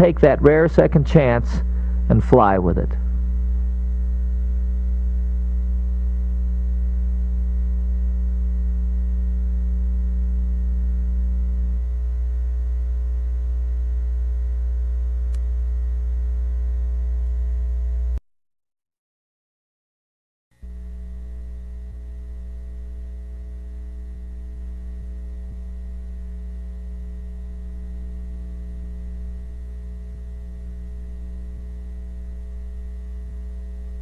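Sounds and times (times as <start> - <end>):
electrical mains hum: 0.0 - 18.2, 20.6 - 34.0.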